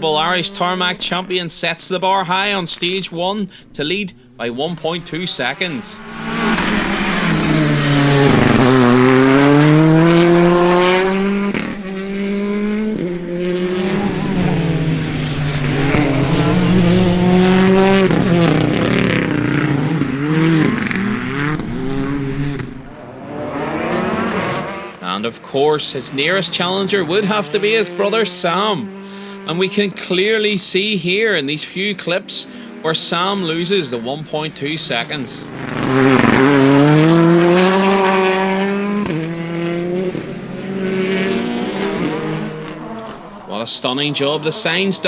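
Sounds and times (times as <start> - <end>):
rally car engine revving: 0.0 - 1.6, 4.1 - 45.0.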